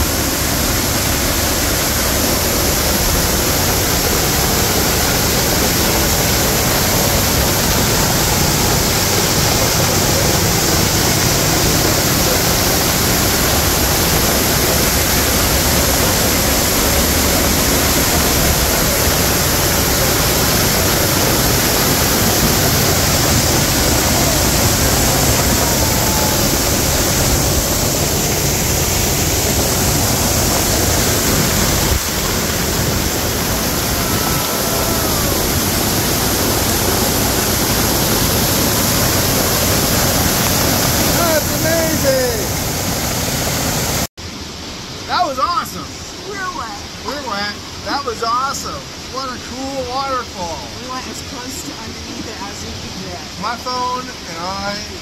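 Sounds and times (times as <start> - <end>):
waterfall rushing onto rocks: 0.0 - 55.0.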